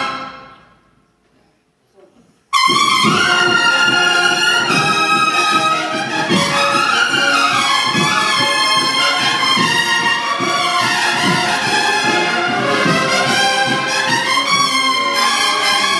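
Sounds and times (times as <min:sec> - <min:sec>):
bugle and drum band march: 0:00.0 - 0:00.6, 0:02.5 - 0:15.9.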